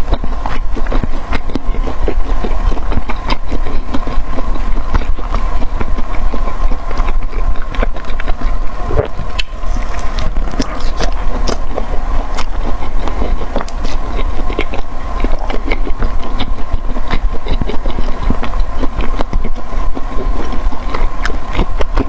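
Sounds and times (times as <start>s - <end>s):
chewing with wet mouth clicks: 0.0s - 22.0s
steady low hum: 0.0s - 22.0s.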